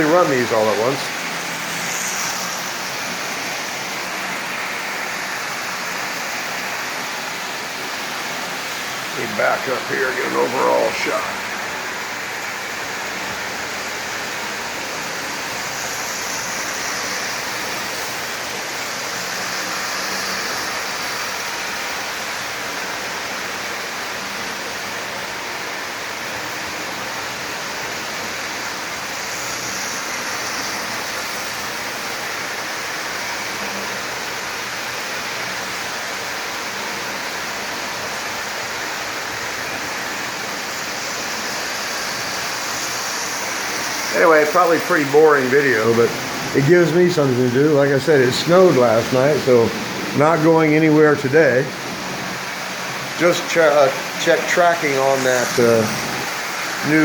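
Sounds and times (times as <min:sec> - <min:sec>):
toy trains rattling on tracks: 0:00.0 - 0:57.0.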